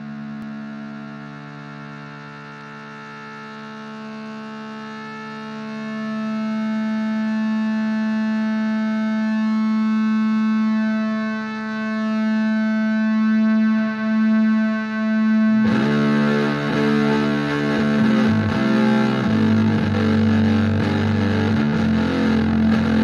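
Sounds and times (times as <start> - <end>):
sustained buzzy rock drone: 0.0 - 23.0.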